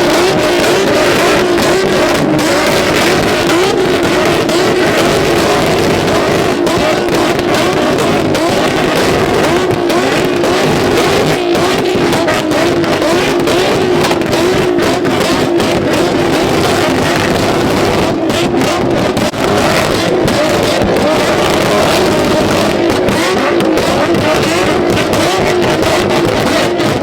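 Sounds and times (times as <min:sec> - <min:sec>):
car engine bouncing on rev limiter: 0:00.0 - 0:27.0
sharp exhaust cracks: 0:00.0 - 0:27.0.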